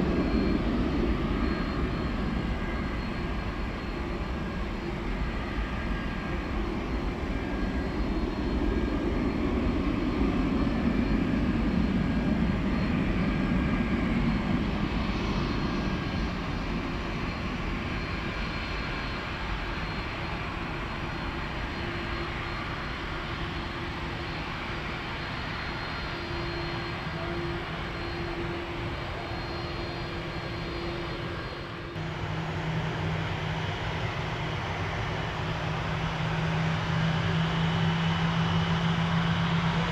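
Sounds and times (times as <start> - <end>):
jet airliner engines roaring: 0.0 - 39.9.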